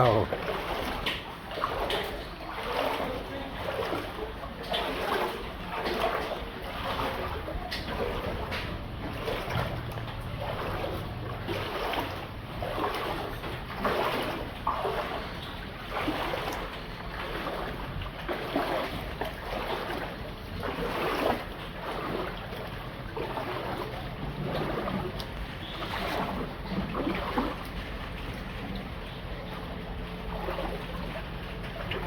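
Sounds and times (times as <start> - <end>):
water splashing and sloshing: 0.0 - 32.0
low steady rumble: 5.2 - 32.0.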